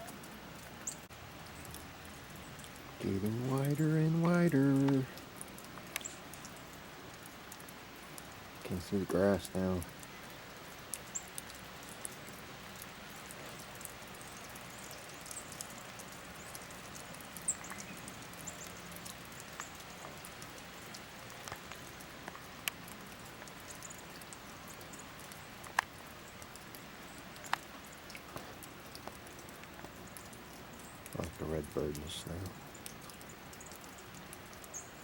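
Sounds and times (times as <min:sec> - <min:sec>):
snow pattering and ticking: 0:00.0 - 0:35.0
steady hiss: 0:00.0 - 0:35.0.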